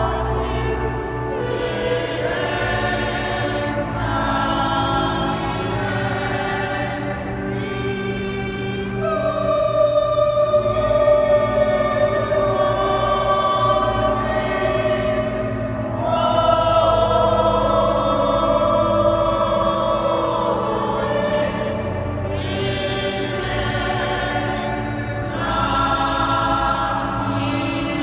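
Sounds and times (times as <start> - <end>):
choir singing long notes: 0.0 - 28.0.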